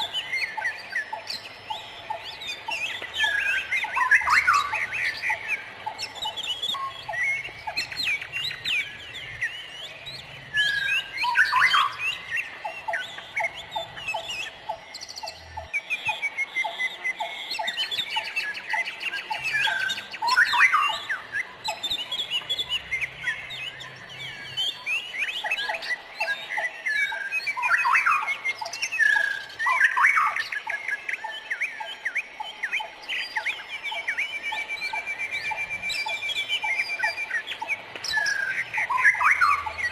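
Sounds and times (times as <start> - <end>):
birds chirping and calling: 0.0 - 39.9
fast bird trill: 0.0 - 39.9.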